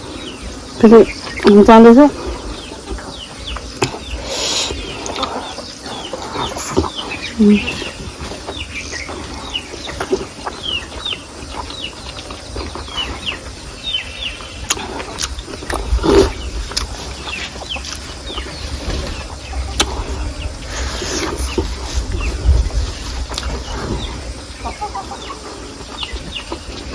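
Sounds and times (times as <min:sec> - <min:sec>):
chickens clucking and chirping: 0:00.0 - 0:26.9.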